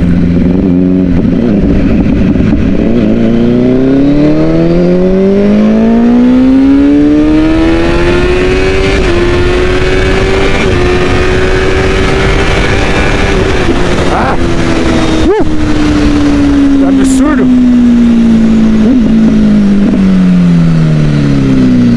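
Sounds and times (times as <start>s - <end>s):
wind noise: 0.0s - 5.9s, 6.6s - 21.9s
motorcycle engine pulling under throttle: 0.0s - 21.9s.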